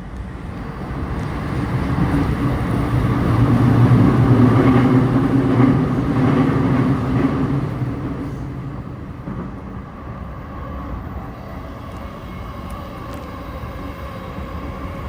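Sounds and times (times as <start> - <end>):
electric train rumble and wheel noise: 0.0 - 15.0.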